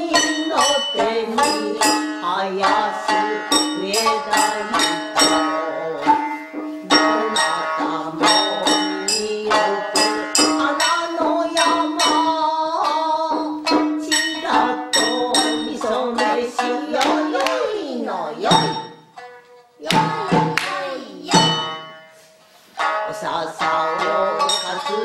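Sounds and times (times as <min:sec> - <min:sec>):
person singing: 0:00.0 - 0:22.0, 0:22.8 - 0:25.0
shamisen plucking: 0:00.0 - 0:25.0.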